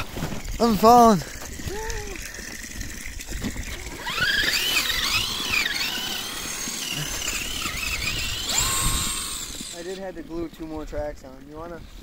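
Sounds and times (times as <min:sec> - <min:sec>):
electric motor and gears whining: 0:00.0 - 0:10.5.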